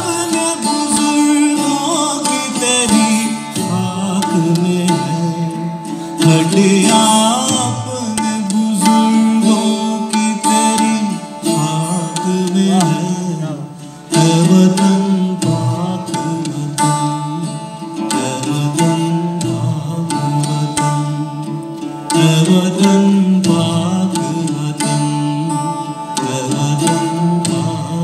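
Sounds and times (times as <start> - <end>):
man singing: 0.0 - 28.0
plucked string instrument: 0.0 - 28.0
tabla: 0.0 - 28.0.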